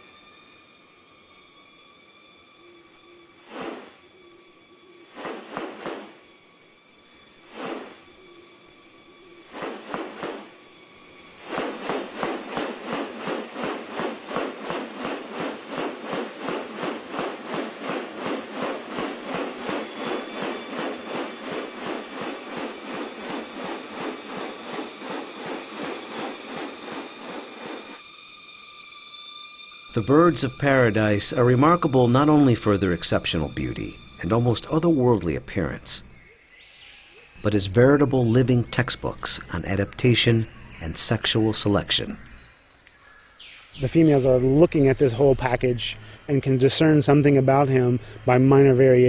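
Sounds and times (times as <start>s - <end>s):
high insect drone: 0.0s - 49.0s.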